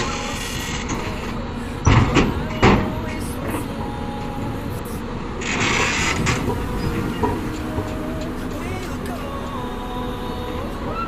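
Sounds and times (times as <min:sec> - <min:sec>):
diesel engine running: 0:00.0 - 0:11.0
hissing: 0:00.0 - 0:11.0.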